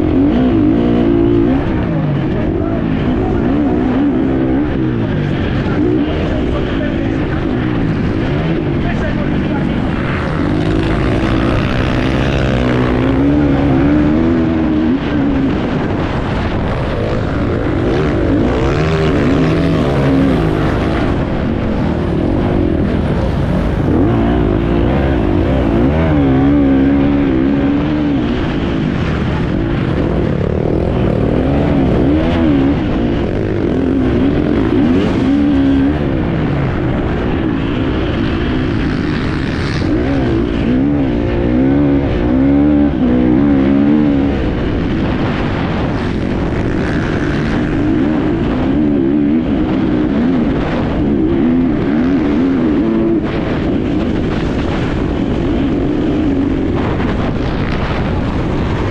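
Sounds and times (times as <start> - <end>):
constant rush of noise: 0.0 - 58.9
motorcycle engine revving: 0.0 - 58.9.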